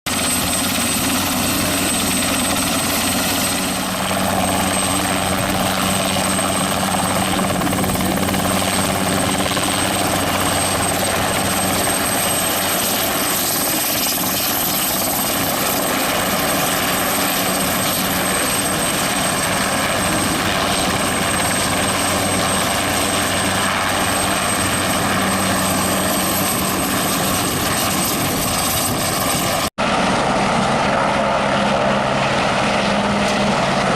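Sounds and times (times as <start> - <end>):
engine and rotor hum: 0.1 - 33.9
helicopter turbine whine: 0.1 - 33.9.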